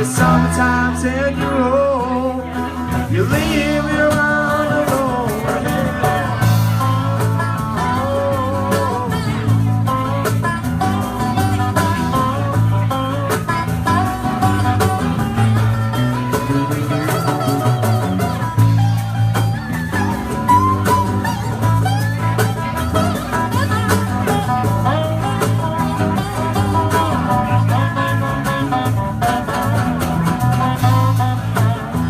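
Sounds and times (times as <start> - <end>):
bass guitar: 0.0 - 32.0
lead guitar with bending notes: 0.0 - 32.0
steady drums: 0.0 - 32.0.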